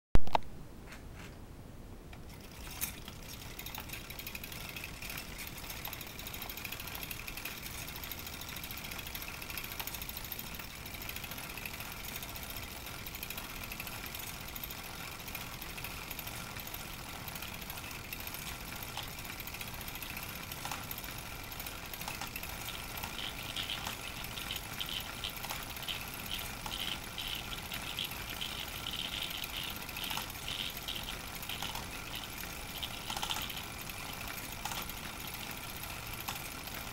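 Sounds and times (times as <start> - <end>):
film projector clattering: 2.2 - 36.9.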